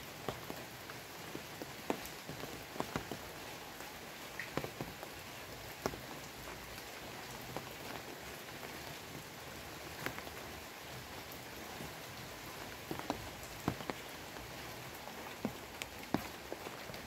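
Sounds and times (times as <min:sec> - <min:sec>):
raindrops tapping: 0:00.0 - 0:17.0
steady rain hiss: 0:00.0 - 0:17.0.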